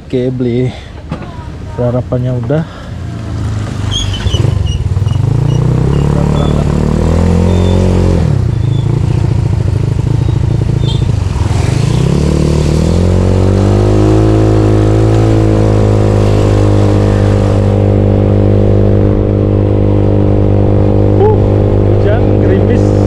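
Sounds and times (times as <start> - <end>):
scooter engine pulling away: 3.0 - 23.0.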